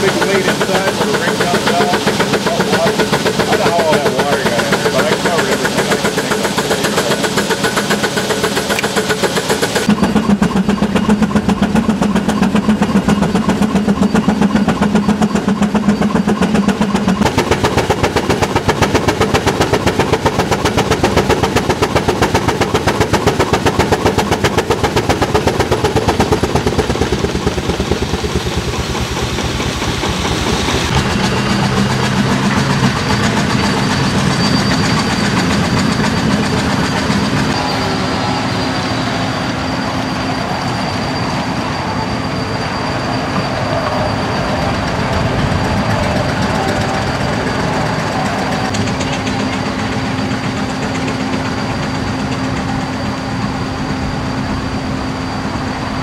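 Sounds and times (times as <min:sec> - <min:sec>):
antique engine running: 0:00.0 - 0:41.8, 0:44.0 - 0:56.0.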